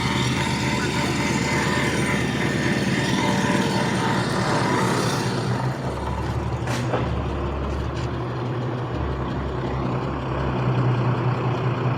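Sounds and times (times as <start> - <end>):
heavy engine droning: 0.0 - 11.9.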